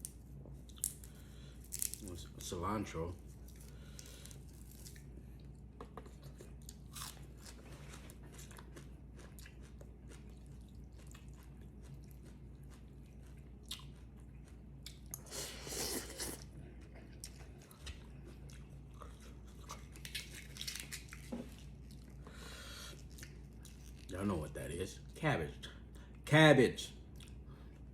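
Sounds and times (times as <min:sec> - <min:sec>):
person chewing and crunching food: 0:00.0 - 0:02.4, 0:03.2 - 0:24.2, 0:27.1 - 0:27.9.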